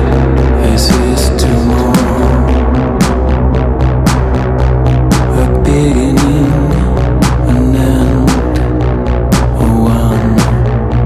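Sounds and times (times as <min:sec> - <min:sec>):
deep bass drone: 0:00.0 - 0:11.0.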